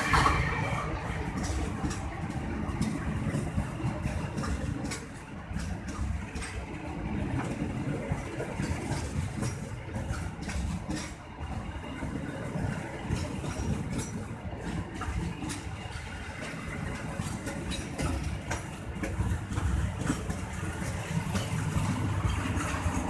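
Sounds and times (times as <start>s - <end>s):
train wheels rumbling on rails: 0.0s - 23.0s
wheels clicking and clacking: 0.0s - 23.0s.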